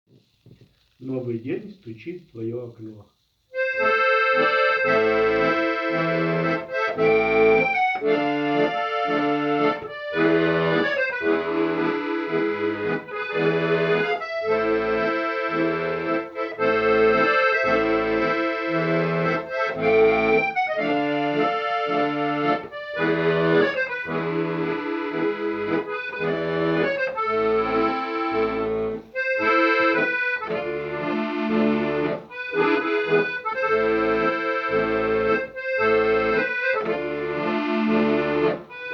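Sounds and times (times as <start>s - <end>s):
instrumental music with pulsing bass: 3.7s - 38.9s.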